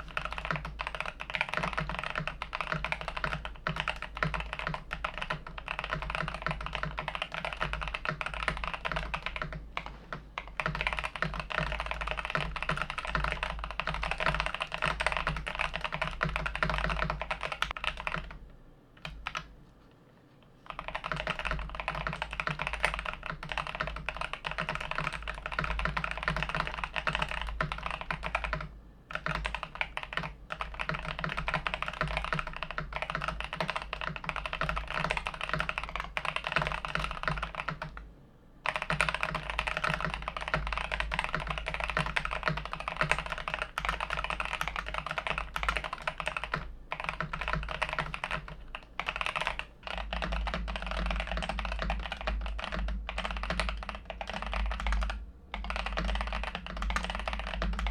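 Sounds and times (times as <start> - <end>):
fast typing on mechanical keyboard: 0.0 - 18.4, 19.0 - 19.5, 20.6 - 38.0, 38.6 - 57.9.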